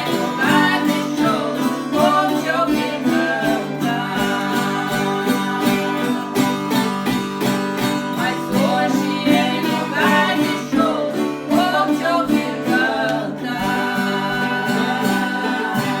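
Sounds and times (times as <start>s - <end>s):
person singing a gospel song: 0.0s - 6.9s, 8.0s - 16.0s
acoustic guitar strumming: 0.0s - 16.0s.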